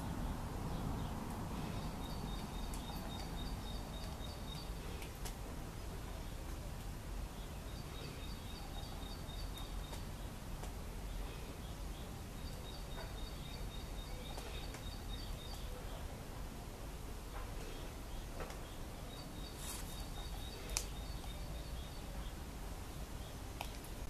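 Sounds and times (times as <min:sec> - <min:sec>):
bird chirping: 0:00.0 - 0:05.0, 0:07.4 - 0:10.4, 0:11.0 - 0:16.1, 0:17.6 - 0:24.0.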